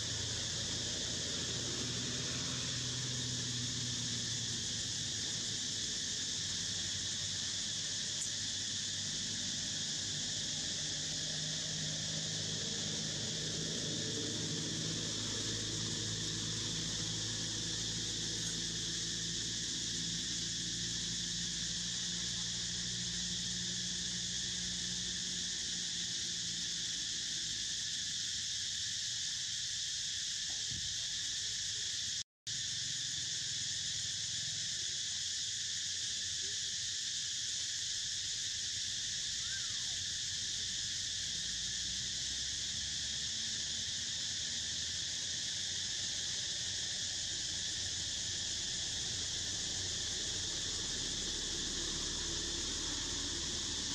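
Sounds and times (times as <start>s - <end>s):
insects buzzing: 0.0s - 53.9s.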